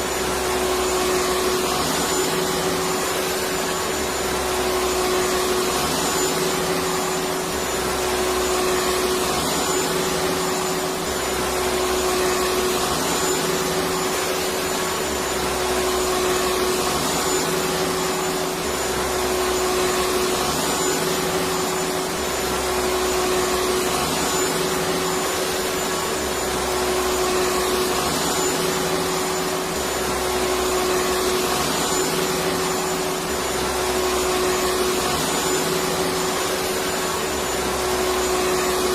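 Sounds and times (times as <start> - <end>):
vacuum cleaner motor running: 0.0 - 38.9.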